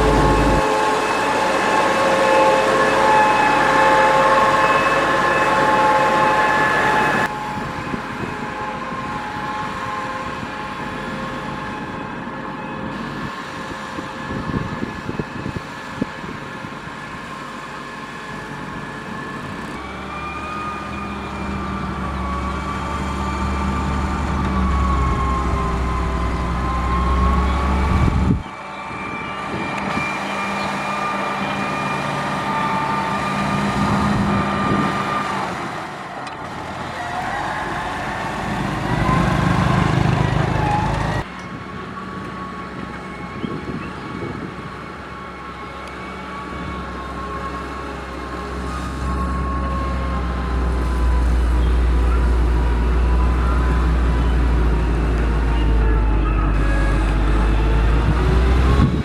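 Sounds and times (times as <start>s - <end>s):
motor grader diesel engine: 0.0s - 59.0s.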